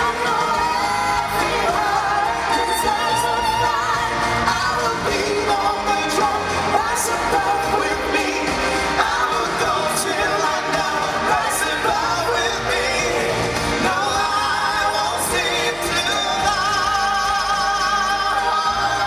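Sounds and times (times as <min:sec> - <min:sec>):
man singing into microphone: 0:00.0 - 0:19.0
pop music backing: 0:00.0 - 0:19.0.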